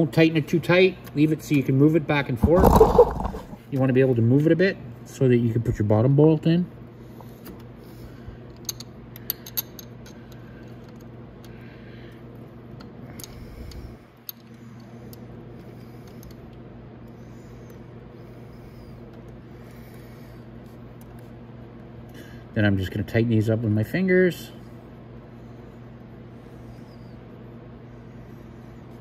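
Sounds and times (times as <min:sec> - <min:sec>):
steady low hum: 0:01.8 - 0:03.8, 0:06.7 - 0:29.0.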